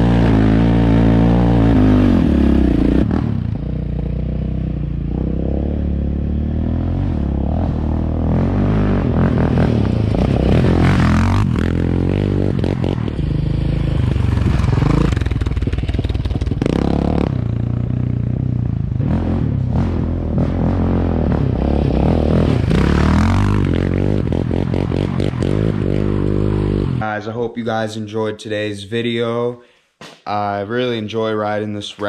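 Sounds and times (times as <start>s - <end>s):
quad bike engine revving: 0.0s - 27.1s.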